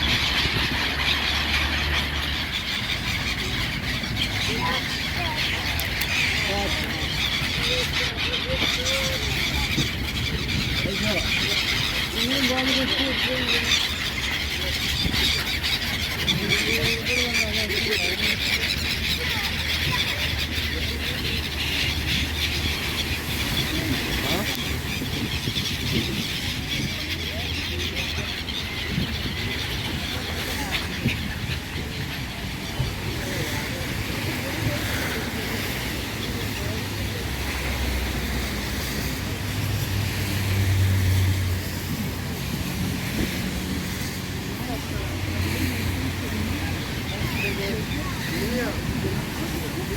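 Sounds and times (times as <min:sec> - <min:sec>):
faint distant voices: 0:00.0 - 0:49.9.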